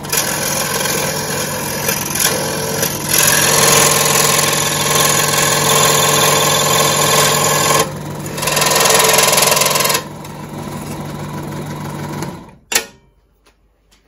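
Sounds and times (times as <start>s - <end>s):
scroll saw cutting aluminium: 0.0s - 12.6s.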